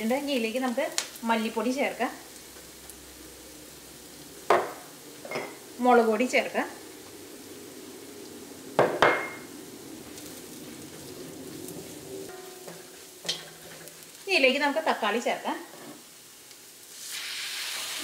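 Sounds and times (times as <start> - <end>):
onions sizzling in a pan: 0.0 - 18.0.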